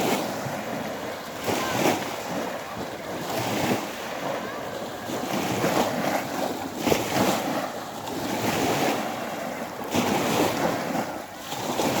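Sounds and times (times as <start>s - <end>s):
waves washing onto shore: 0.0s - 12.0s
wind rumbling on microphone: 0.0s - 12.0s.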